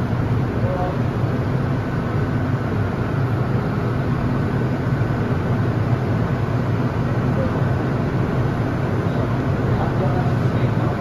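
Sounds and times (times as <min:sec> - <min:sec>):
train car low hum and rumble: 0:00.0 - 0:11.0.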